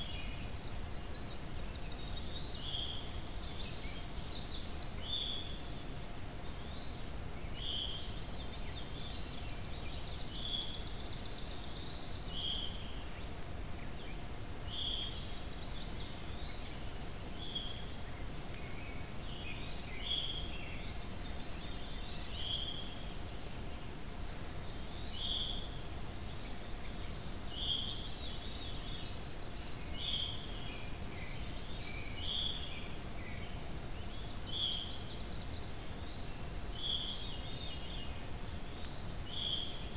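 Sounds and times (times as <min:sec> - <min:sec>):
faint steady hum: 0:00.0 - 0:39.9
songbirds singing: 0:00.0 - 0:39.9
steady low hiss: 0:00.0 - 0:39.9.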